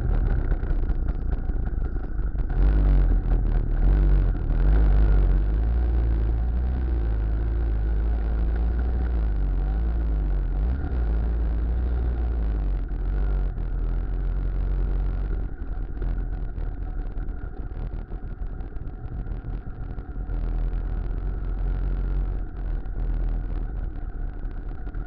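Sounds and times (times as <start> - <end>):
two-stroke engine droning: 0.0 - 25.0.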